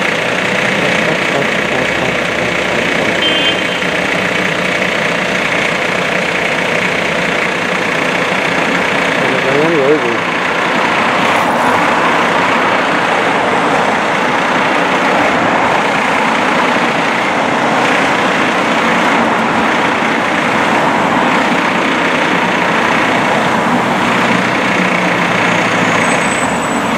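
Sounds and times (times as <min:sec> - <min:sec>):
diesel engine idling: 0:00.0 - 0:26.9
road traffic passing: 0:00.0 - 0:26.9.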